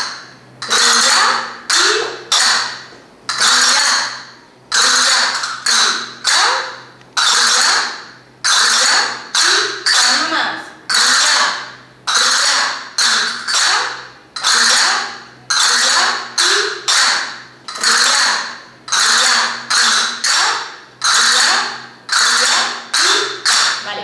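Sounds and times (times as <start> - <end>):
castanets playing: 0.0 - 24.0.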